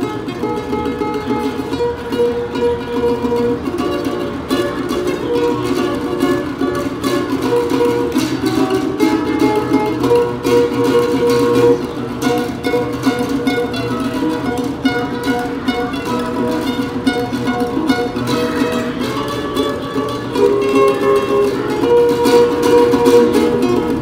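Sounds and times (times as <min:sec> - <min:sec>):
classical guitar melody: 0:00.0 - 0:24.0.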